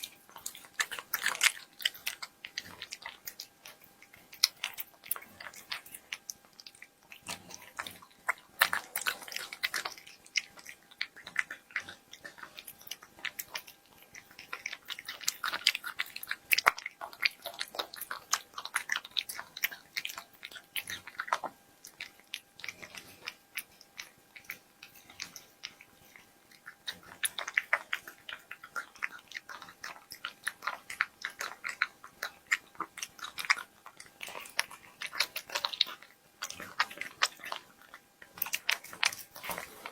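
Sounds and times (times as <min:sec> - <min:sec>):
cat chewing and crunching food: 0:00.0 - 0:39.9.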